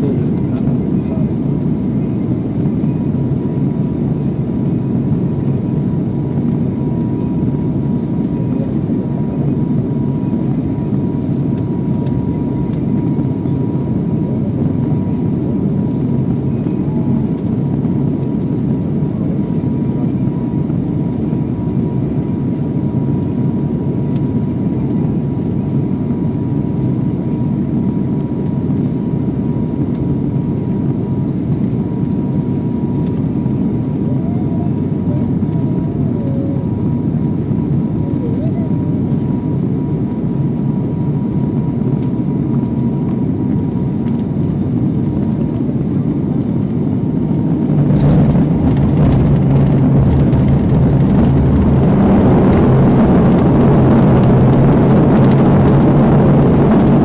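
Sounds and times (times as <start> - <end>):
airliner cabin drone: 0.0 - 57.0
faint constant whine: 0.0 - 57.0.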